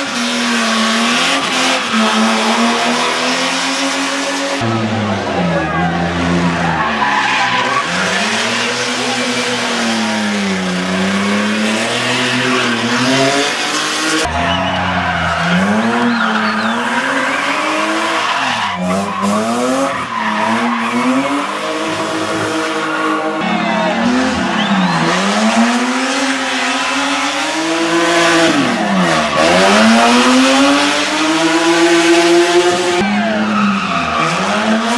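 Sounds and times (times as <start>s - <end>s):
race car engines revving: 0.0s - 34.9s
tyre squeal: 0.0s - 34.9s.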